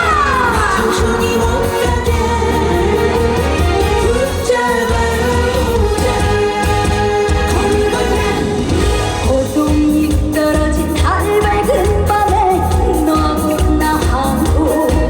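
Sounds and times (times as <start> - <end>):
loud backing music with beat: 0.0 - 15.0
woman singing: 0.0 - 15.0.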